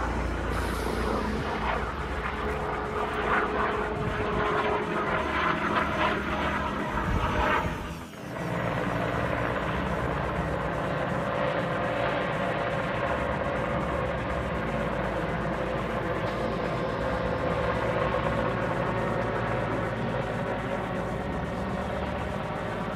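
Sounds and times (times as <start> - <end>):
distant helicopter rotor and engine: 0.0 - 22.9.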